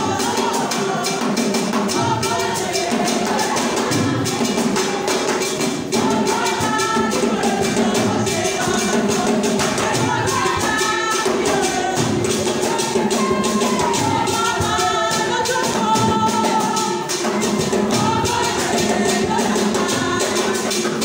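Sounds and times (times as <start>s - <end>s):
fast percussion beat: 0.0s - 21.0s.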